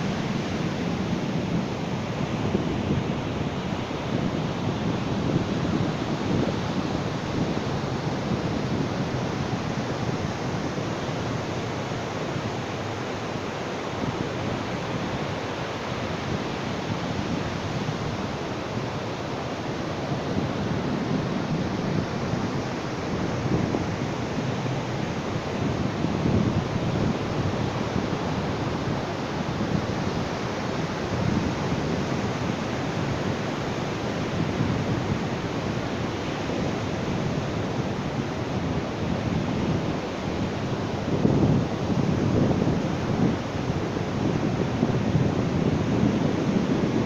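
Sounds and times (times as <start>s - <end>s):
ocean waves washing onto beach: 0.0s - 47.0s.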